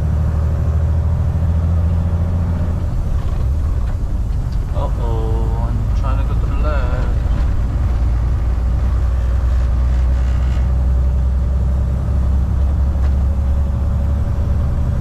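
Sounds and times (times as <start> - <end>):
road rumble: 0.0 - 15.0
truck diesel engine drone: 0.0 - 15.0.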